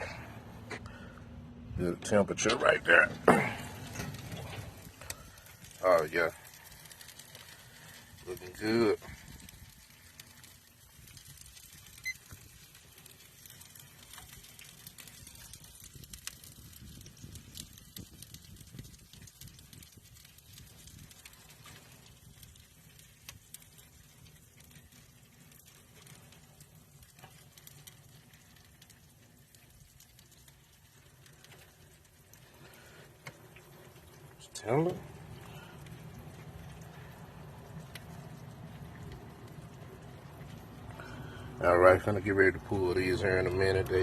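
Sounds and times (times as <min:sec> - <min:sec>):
low steady rumble: 0:00.0 - 0:44.0
smoker fire crackling and popping: 0:00.0 - 0:44.0.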